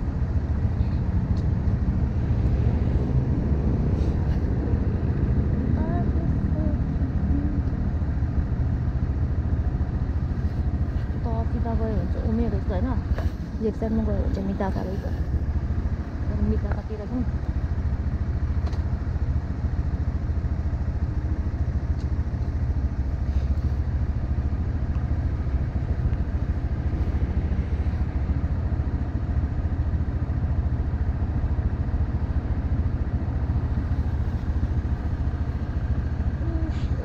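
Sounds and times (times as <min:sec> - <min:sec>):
small motorcycle engine idling: 0:00.0 - 0:02.6, 0:05.5 - 0:37.0.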